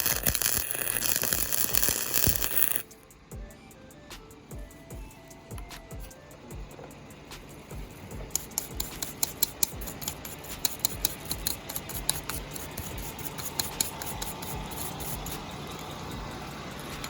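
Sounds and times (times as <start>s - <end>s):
arc welder crackling: 0.0s - 3.2s, 5.5s - 17.0s.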